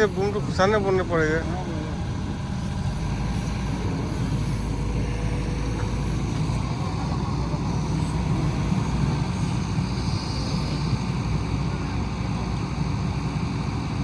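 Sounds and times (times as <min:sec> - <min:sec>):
diesel machinery rumbling: 0:00.0 - 0:14.0.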